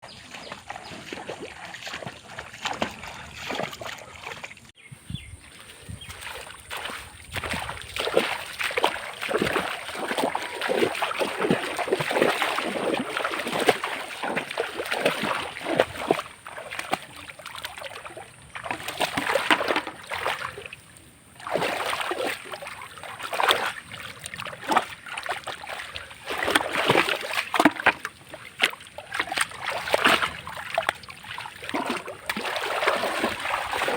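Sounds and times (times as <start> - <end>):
muddy water splashing: 0.0 - 33.9.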